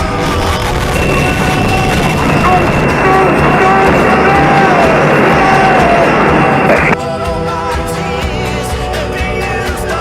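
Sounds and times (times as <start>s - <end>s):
song with singing over instruments: 0.0s - 10.0s.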